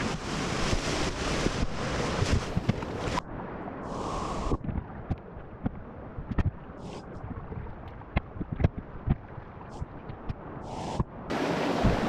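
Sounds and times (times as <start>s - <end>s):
flowing creek water: 0.0s - 12.0s
wind on microphone: 0.0s - 12.0s.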